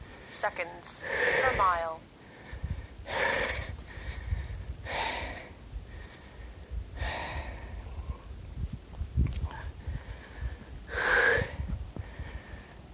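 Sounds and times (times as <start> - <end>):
person breathing heavily: 1.0 - 8.4, 9.4 - 12.9.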